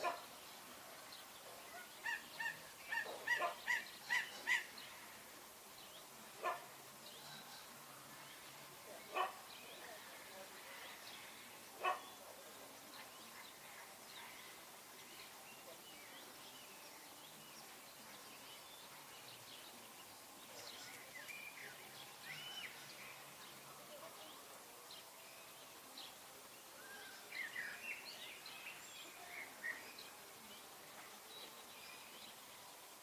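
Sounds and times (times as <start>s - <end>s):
faint background hiss: 0.0s - 33.0s.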